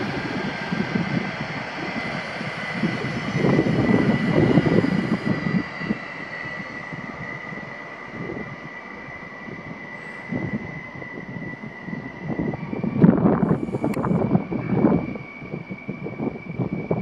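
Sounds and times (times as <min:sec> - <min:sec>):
electric train whine: 0:00.0 - 0:17.0
low train rumble: 0:00.0 - 0:17.0.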